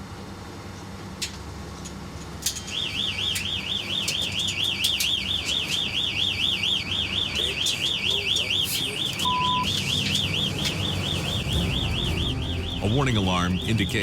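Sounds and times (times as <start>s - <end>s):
warbling electronic alarm: 2.7s - 14.0s.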